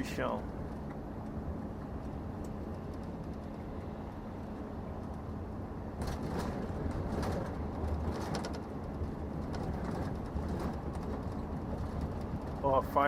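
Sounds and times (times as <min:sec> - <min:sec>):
diesel engine hum: 0:00.0 - 0:13.0
road noise: 0:00.0 - 0:13.0.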